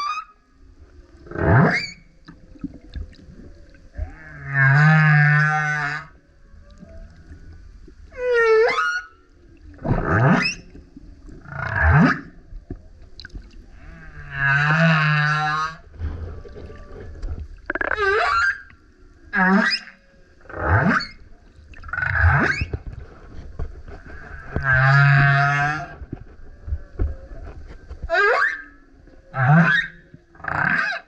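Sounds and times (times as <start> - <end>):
whale long moan: 0.0 - 12.5, 13.7 - 21.1, 24.0 - 31.0.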